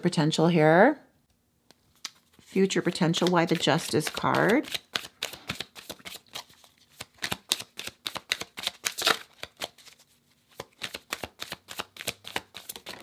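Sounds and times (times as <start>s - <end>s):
cards being shuffled: 1.7s - 13.0s.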